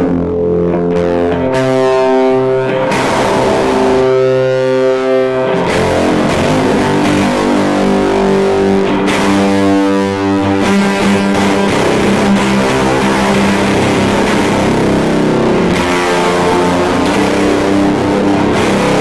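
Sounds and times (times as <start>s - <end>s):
fuzzed electric guitar chords: 0.0s - 19.0s.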